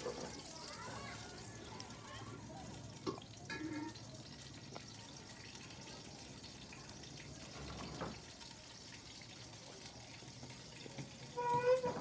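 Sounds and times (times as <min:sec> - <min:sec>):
water stirred with metal spoon: 0:00.0 - 0:12.0.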